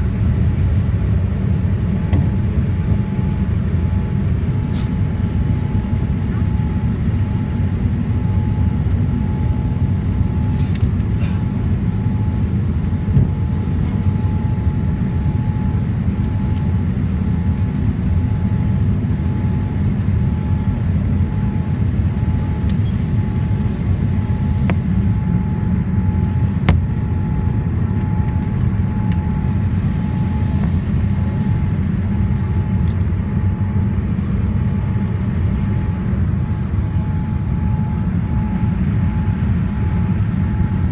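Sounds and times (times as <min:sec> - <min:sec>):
airliner cabin engine roar: 0:00.0 - 0:40.9
thin steady whine: 0:00.0 - 0:40.9.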